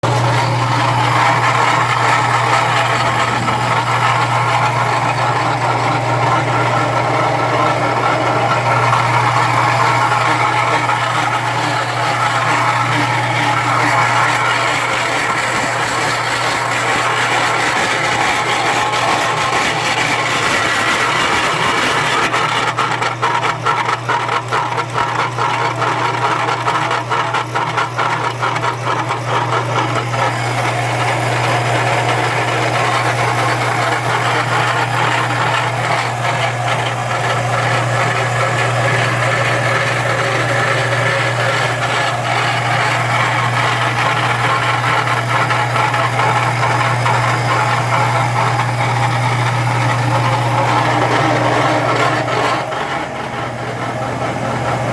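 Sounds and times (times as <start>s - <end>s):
machine humming: 0.0s - 54.9s
rapid rattling: 0.0s - 54.9s.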